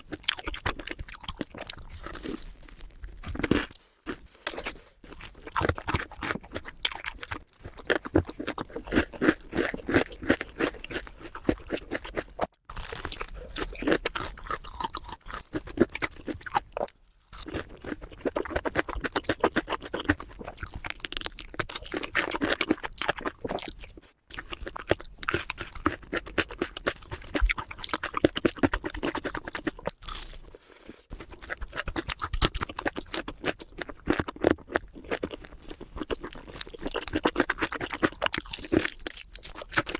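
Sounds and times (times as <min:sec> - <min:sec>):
crunching and chewing crispy food: 0:00.0 - 0:39.9.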